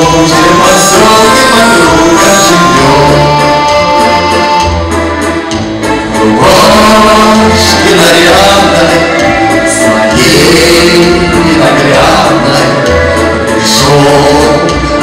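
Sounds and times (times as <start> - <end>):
two men singing: 0.0 - 3.7, 6.2 - 15.0
instrumental accompaniment: 0.0 - 15.0.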